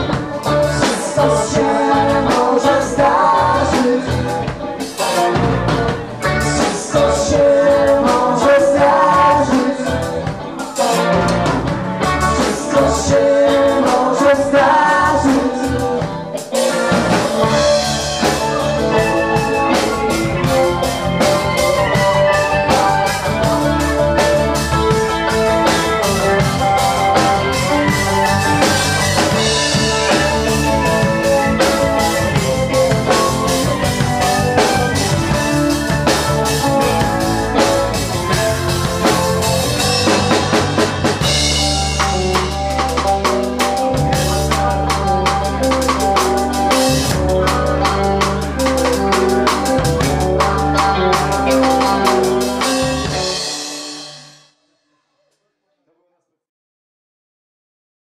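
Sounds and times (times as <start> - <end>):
man singing: 0.0 - 48.7
drum kit beat: 0.0 - 54.5
keyboard: 0.0 - 54.6.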